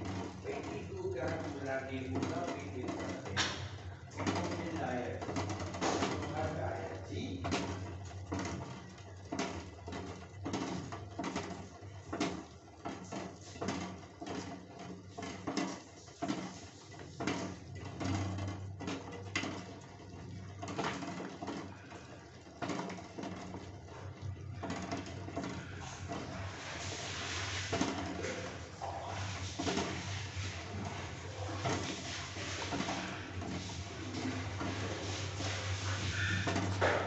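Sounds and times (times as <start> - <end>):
water boiling in pot: 0.0 - 37.0.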